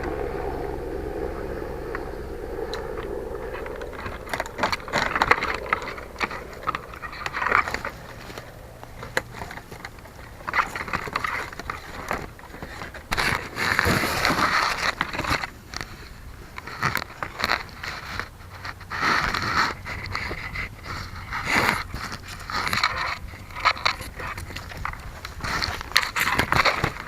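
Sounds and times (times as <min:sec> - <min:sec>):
branches and leaves rubbing: 0:00.0 - 0:27.0.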